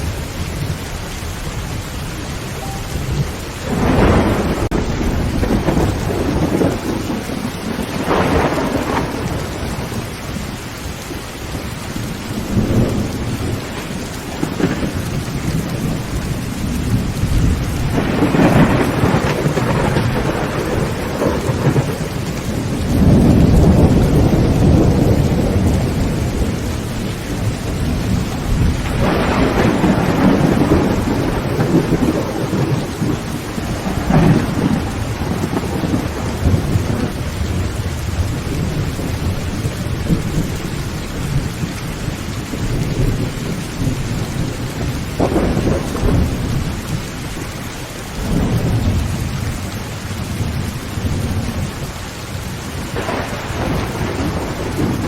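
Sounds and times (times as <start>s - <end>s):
thunder rolling: 0.0s - 10.2s, 12.0s - 51.9s, 52.7s - 55.0s
heavy rain on a tin roof: 0.0s - 55.0s.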